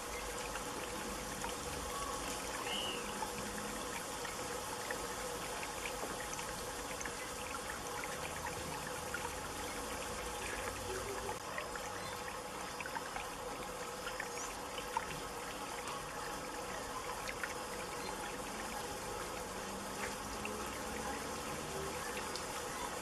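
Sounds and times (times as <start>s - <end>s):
fountain water trickling and pouring: 0.0s - 23.0s
water splashes and drips: 0.0s - 23.0s.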